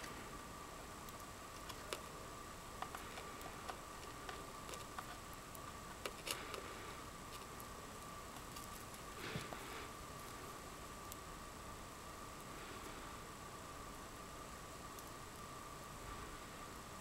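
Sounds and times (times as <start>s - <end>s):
faint background whine: 0.0s - 17.0s.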